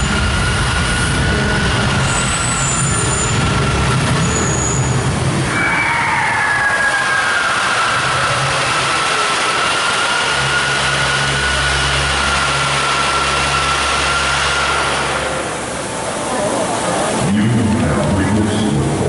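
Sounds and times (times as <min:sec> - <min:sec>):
low steady rumble: 0:00.0 - 0:05.6, 0:07.2 - 0:19.0
fire and steam jets hissing: 0:00.0 - 0:17.2.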